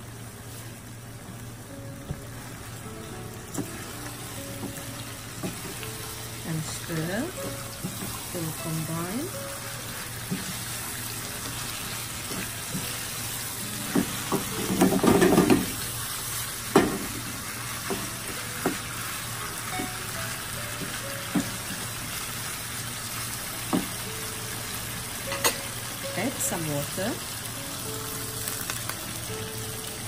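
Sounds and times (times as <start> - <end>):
chicken sizzling in a frying pan: 0.0 - 30.0.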